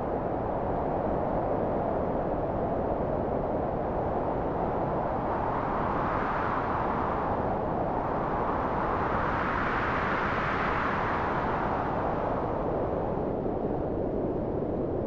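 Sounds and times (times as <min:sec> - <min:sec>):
strong gusty wind: 0:00.0 - 0:15.0.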